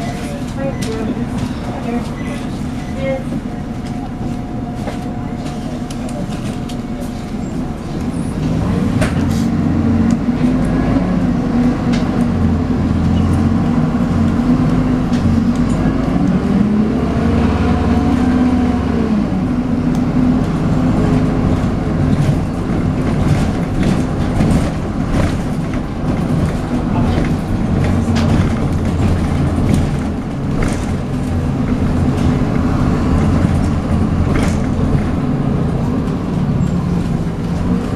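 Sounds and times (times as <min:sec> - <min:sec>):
bus diesel engine whining: 0:00.0 - 0:37.9.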